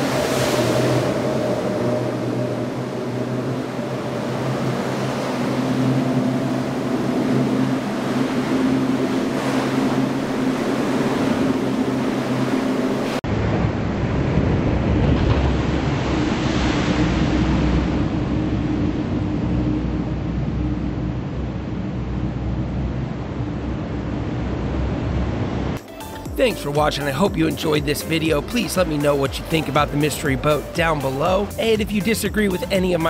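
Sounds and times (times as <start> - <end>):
deeper engine rumble: 0.0 - 33.0
outboard engines humming: 0.0 - 33.0
rush of spray and waves: 0.0 - 33.0.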